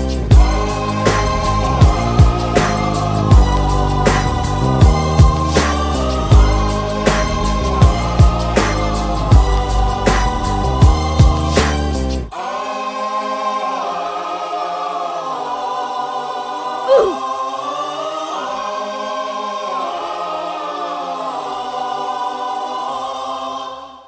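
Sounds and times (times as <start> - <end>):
choir-like vocal music: 0.0 - 24.0.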